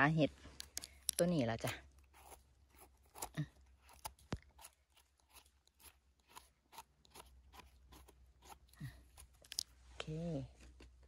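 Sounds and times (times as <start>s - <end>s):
mushroom stems being cut: 0.6s - 10.1s.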